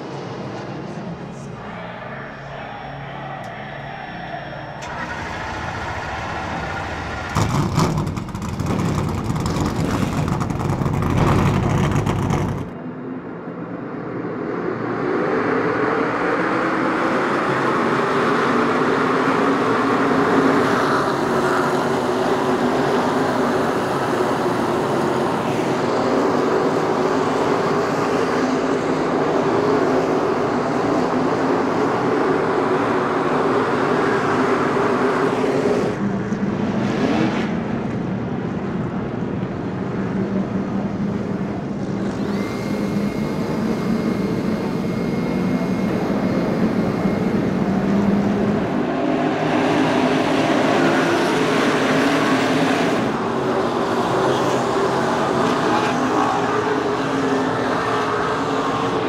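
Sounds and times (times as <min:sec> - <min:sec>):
drone of many race cars: 0:00.0 - 0:59.0
loud close race car engine: 0:04.8 - 0:12.8, 0:15.6 - 0:59.0.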